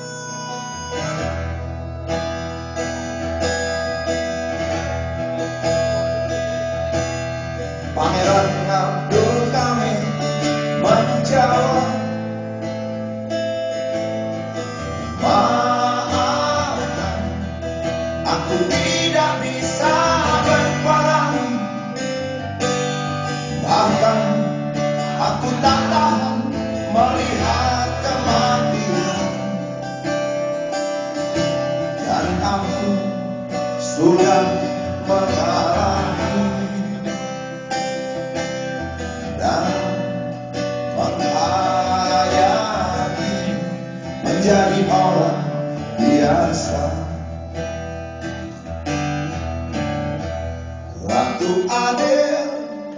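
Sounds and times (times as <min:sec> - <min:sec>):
live band with acoustic guitar: 0:00.0 - 0:52.9.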